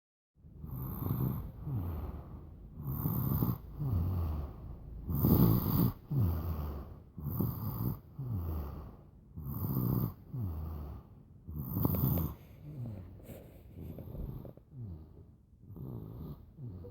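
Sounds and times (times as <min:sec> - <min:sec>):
baby snoring: 0:00.6 - 0:16.9.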